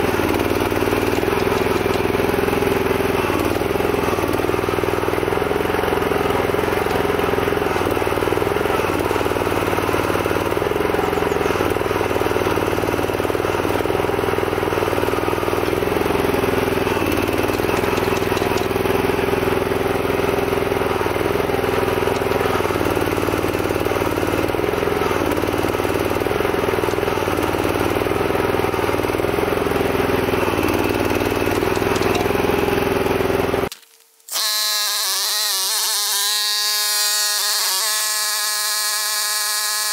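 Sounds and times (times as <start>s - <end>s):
small petrol engine running: 0.0s - 33.7s, 34.3s - 39.9s.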